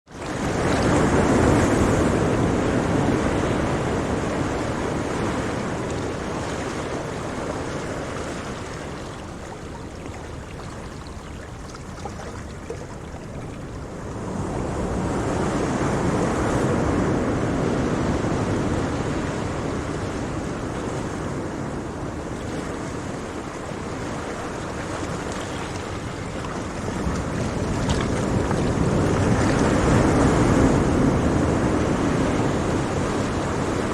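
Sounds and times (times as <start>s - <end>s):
sea surf washing on shore: 0.1s - 33.9s.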